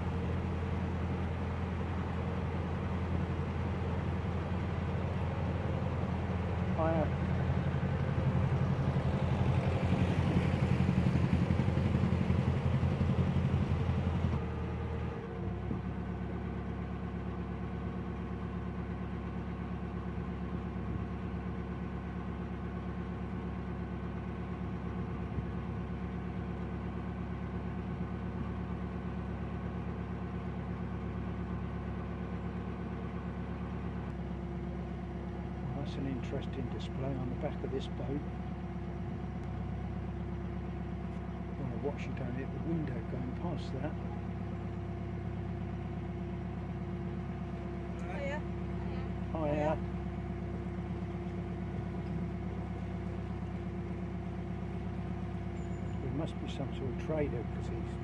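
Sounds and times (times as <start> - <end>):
diesel boat engine running: 0.0 - 58.0.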